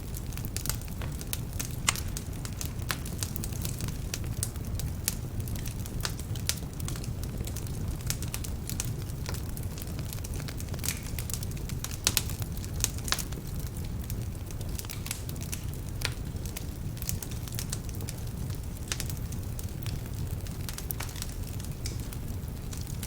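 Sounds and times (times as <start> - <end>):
fire crackling and popping: 0.0 - 23.0
flames rushing: 0.0 - 23.0.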